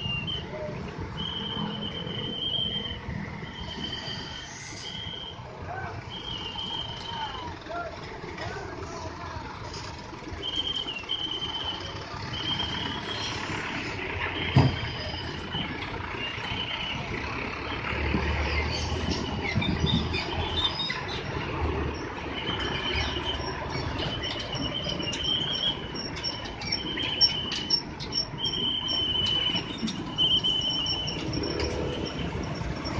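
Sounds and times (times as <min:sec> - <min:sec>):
vehicles running over rails: 0:00.0 - 0:32.9.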